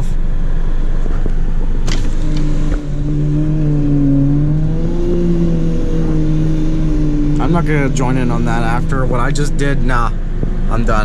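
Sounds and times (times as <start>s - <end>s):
car engine revving high: 0.0s - 11.0s
steady low rumble: 0.0s - 11.0s.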